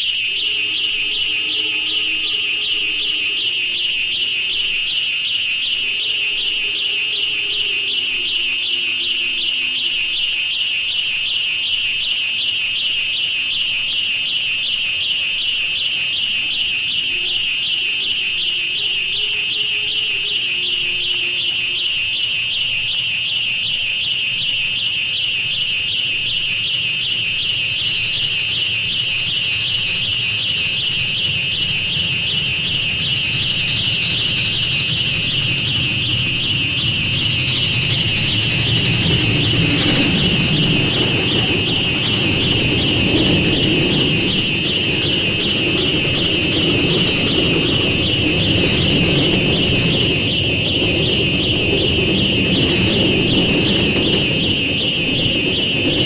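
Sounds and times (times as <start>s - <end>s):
piercing pulsing high drone: 0.0s - 56.0s.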